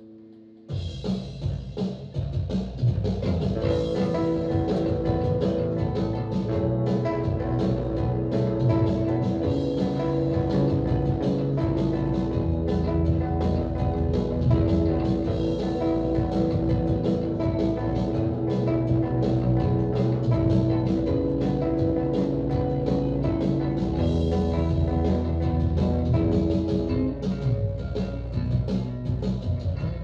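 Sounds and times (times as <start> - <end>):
driving drums: 0.7 - 30.0
bass guitar: 2.8 - 30.0
distorted electric guitar: 2.8 - 30.0.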